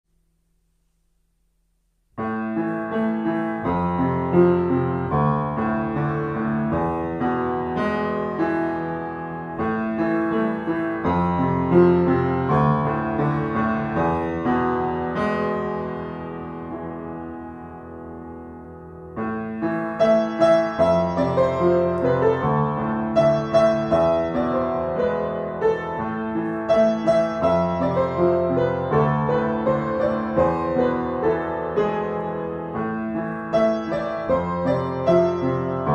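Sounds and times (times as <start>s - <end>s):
piano piece: 2.0s - 35.9s.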